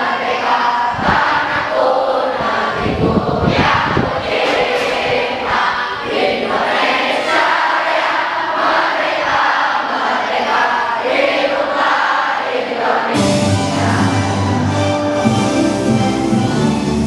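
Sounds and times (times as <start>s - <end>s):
crowd singing in unison: 0.0s - 17.0s.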